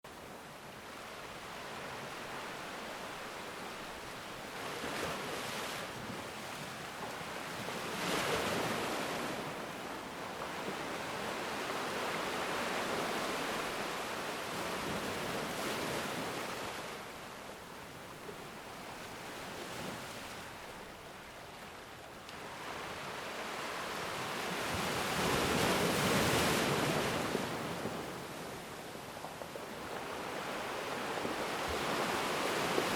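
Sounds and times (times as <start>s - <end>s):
ocean waves washing onto shore: 0.1s - 32.9s.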